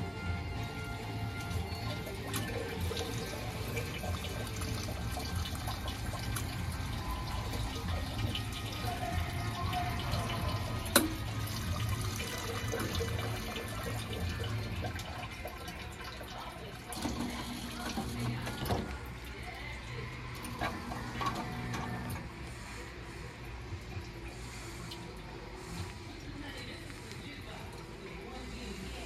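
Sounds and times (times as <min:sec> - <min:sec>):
low machine hum: 0:00.0 - 0:29.0
water splashing and draining: 0:00.0 - 0:29.0.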